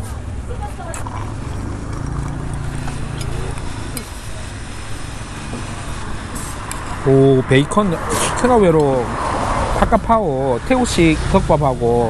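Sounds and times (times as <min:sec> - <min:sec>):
steady low hum: 0:00.0 - 0:12.0
vehicle engine passing: 0:00.0 - 0:12.0.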